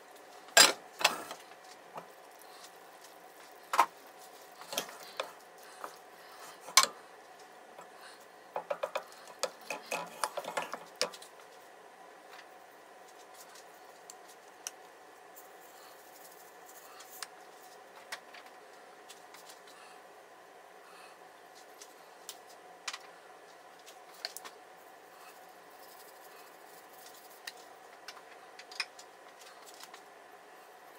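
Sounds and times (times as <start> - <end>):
faint hum: 0.0 - 30.9.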